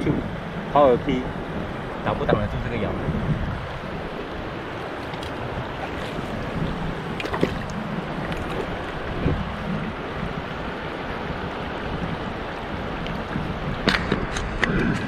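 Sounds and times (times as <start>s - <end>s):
wind buffeting microphone: 0.0s - 15.0s
river rapids rushing: 1.3s - 13.8s.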